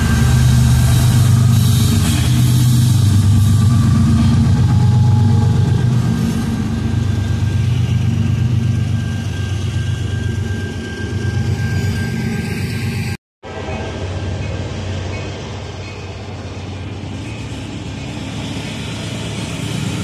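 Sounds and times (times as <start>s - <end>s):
diesel locomotive engine passing: 0.0s - 20.0s.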